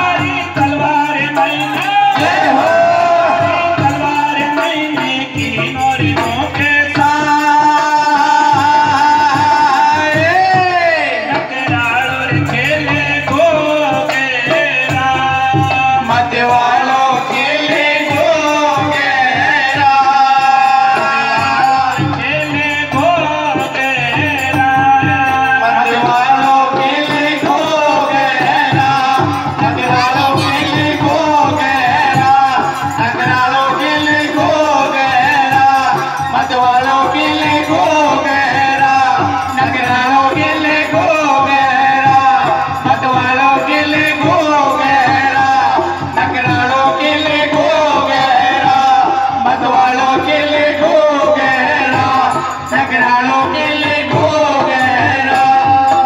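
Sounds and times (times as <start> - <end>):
person singing: 0.0 - 56.0
steady drum beat: 0.0 - 56.0.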